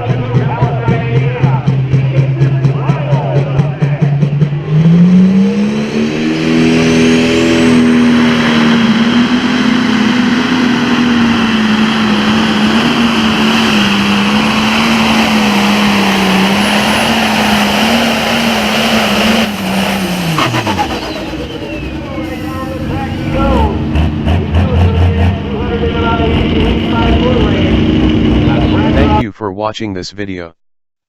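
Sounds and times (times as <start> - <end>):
diesel tractor engine at full throttle: 0.0 - 29.2.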